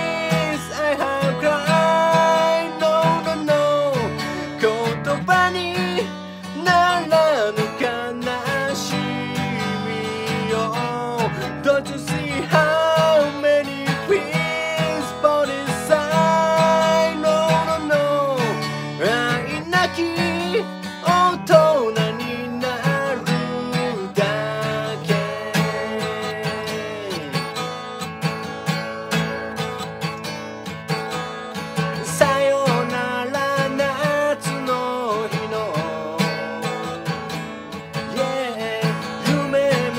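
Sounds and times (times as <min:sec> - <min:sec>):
man singing pop song: 0:00.0 - 0:27.8, 0:31.8 - 0:39.9
acoustic guitar strumming: 0:00.0 - 0:39.9.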